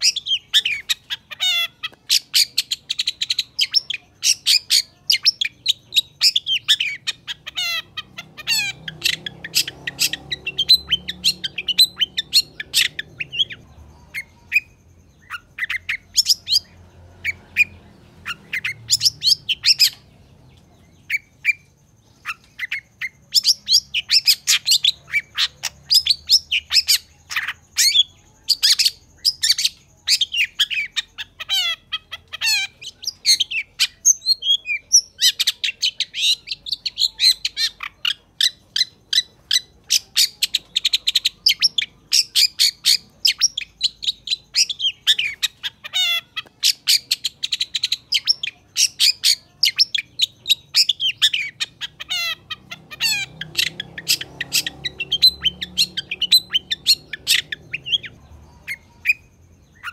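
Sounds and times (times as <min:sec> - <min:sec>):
shrike chattering song: 0:00.0 - 0:59.9.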